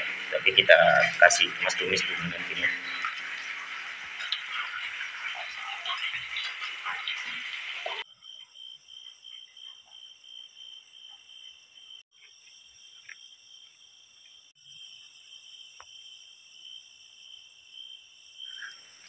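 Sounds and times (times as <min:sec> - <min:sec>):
crickets chirring: 0:00.0 - 0:07.1, 0:08.0 - 0:19.0.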